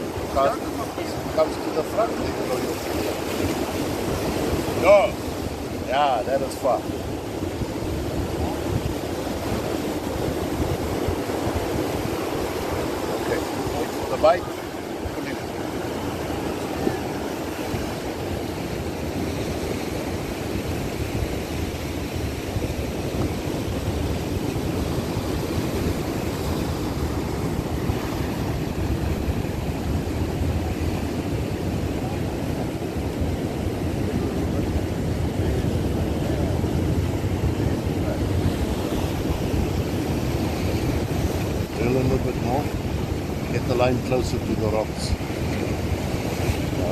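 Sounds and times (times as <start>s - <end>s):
ocean surf against rocks: 0.0s - 46.9s.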